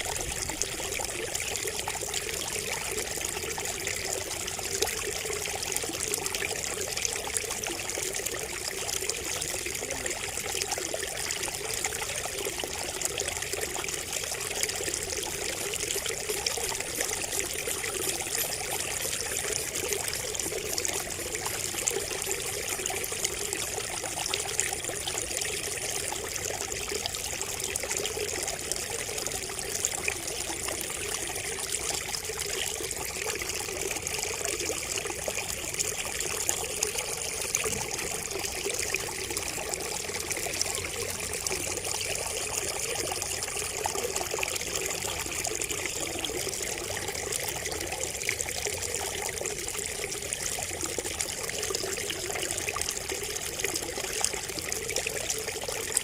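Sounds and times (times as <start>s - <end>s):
water trickling from a spout: 0.0s - 56.0s.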